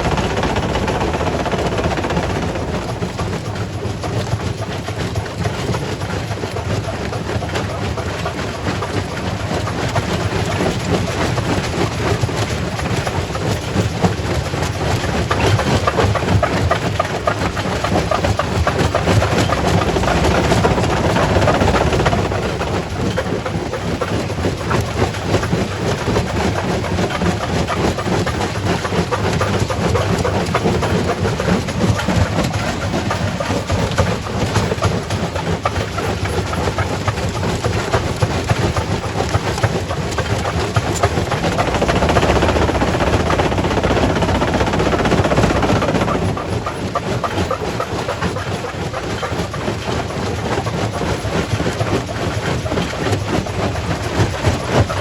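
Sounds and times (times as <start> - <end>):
rock crusher rumbling: 0.0 - 51.3.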